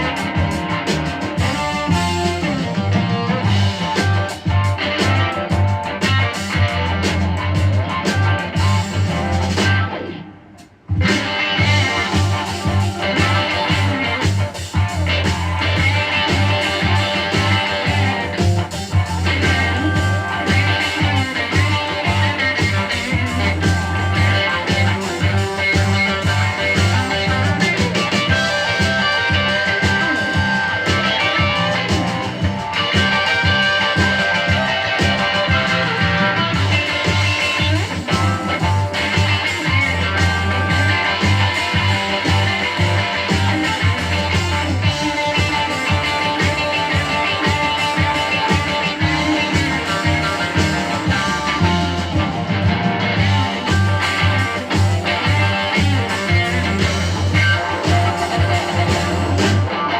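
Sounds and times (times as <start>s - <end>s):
rock music through loudspeakers: 0.0s - 59.9s.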